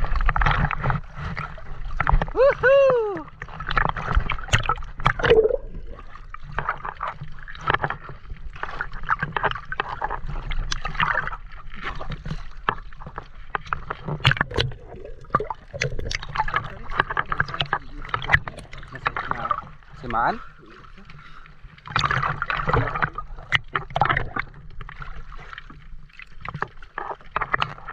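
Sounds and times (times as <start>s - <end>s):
seawater sloshing and splashing: 0.0s - 27.9s
water bubbling: 0.0s - 27.9s.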